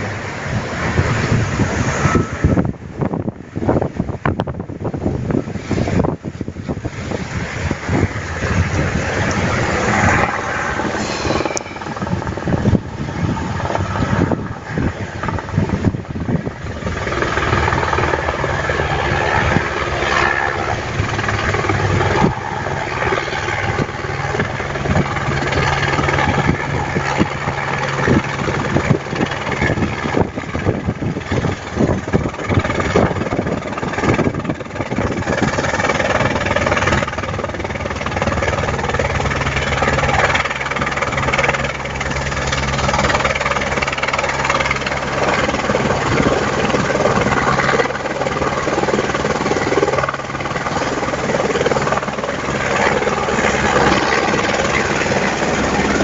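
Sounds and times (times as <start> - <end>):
helicopter rotors droning: 0.0 - 56.0.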